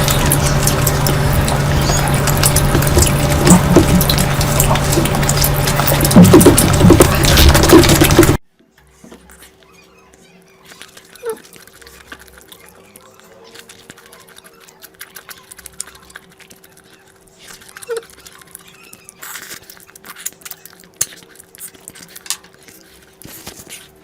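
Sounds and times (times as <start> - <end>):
faint hum: 0.0 - 24.0
wet chewing mouth sounds: 0.0 - 24.0.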